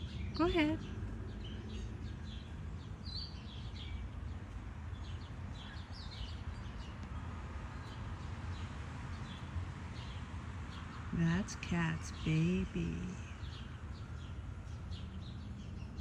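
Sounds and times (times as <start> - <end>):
bird chirps and tweets: 0.0 - 16.0.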